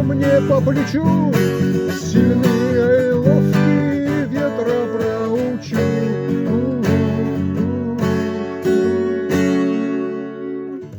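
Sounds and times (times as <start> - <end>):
acoustic guitar strumming chords: 0.0 - 10.9.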